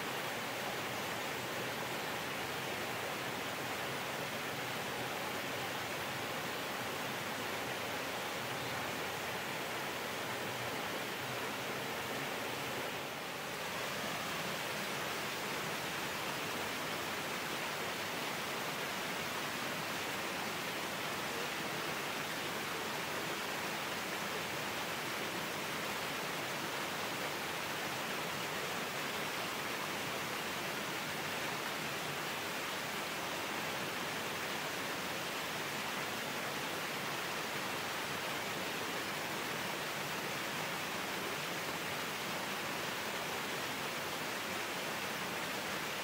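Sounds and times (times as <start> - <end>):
waterfall rushing over rocks: 0.0 - 46.0.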